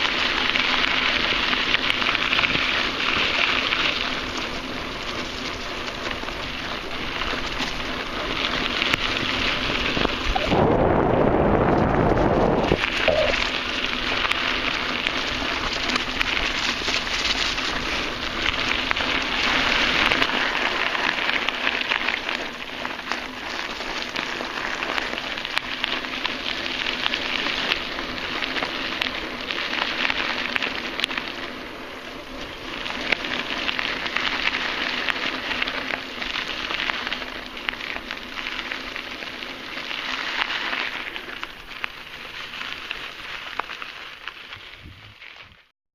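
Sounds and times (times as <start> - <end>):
bike tyres rolling over dry leaves: 0.0 - 45.7.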